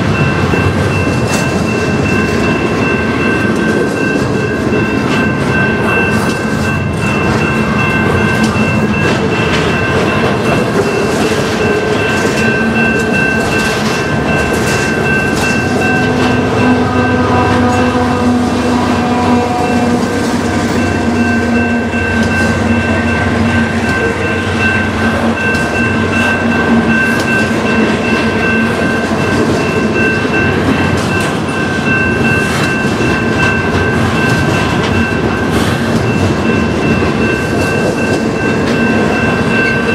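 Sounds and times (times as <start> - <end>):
diesel locomotive engine hum: 0.0 - 39.9
train wheels clicking on rails: 0.0 - 39.9.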